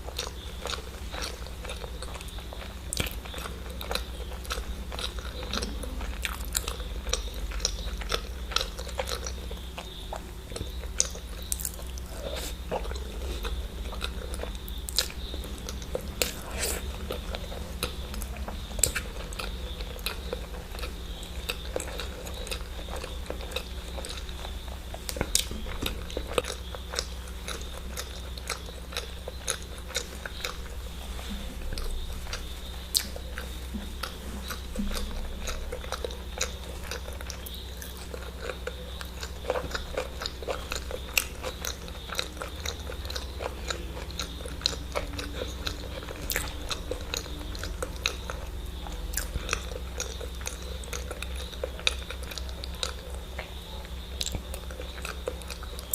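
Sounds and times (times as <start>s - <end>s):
chewing and biting: 0.0s - 55.9s
steady low hum: 0.0s - 55.9s.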